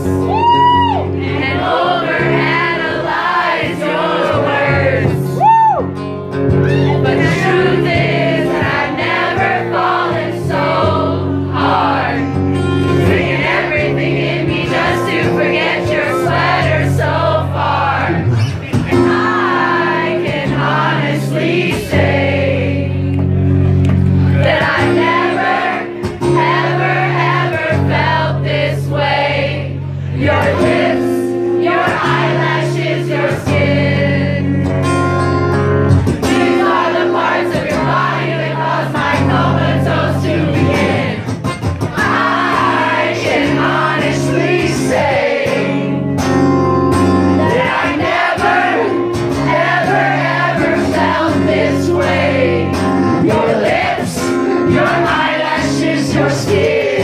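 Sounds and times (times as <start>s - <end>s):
acoustic guitar strumming: 1.0s - 57.0s.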